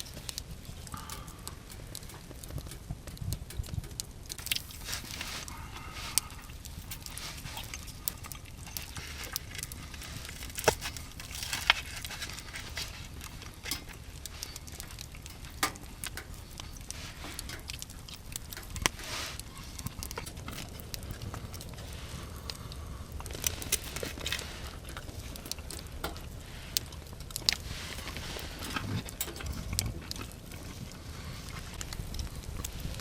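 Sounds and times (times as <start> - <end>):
small clicks and crackles: 0.0 - 33.0.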